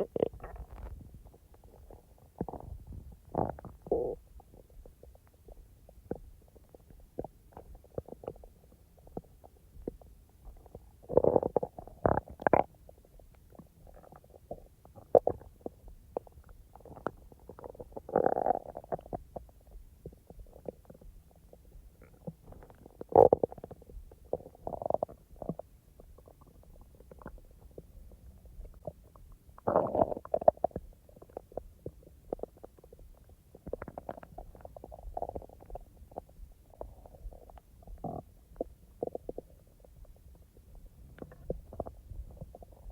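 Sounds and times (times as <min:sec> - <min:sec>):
stomach rumbling and gurgling: 0:00.0 - 0:42.9.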